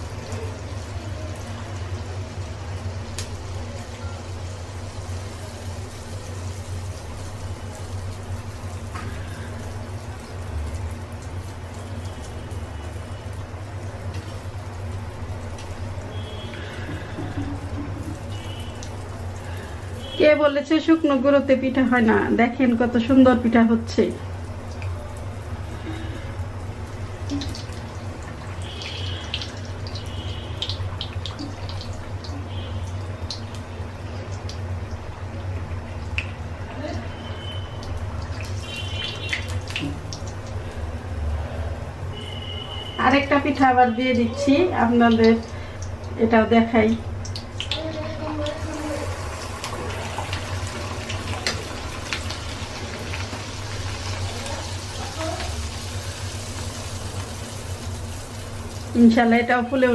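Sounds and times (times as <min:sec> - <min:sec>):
oil bubbling and sizzling: 0:00.0 - 0:59.9.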